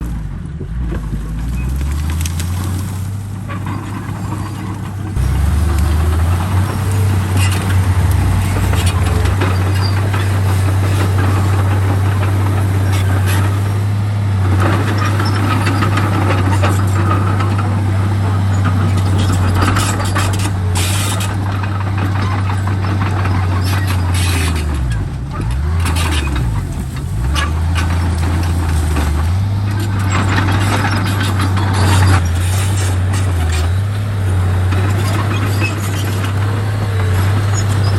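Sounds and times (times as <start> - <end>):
bulldozer diesel engine running: 0.0 - 37.9
metal clanks and knocks: 0.8 - 13.8, 14.4 - 37.9.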